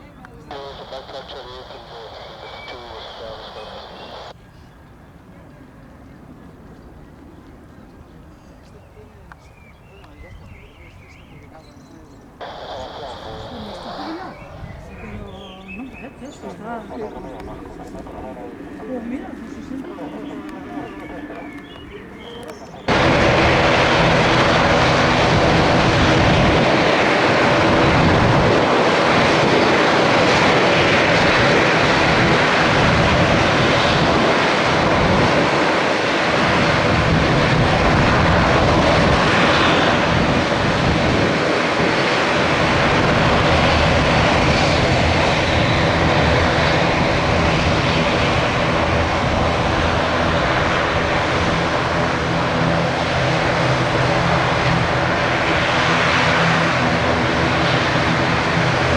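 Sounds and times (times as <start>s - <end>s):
turboprop engines droning: 0.0s - 58.9s.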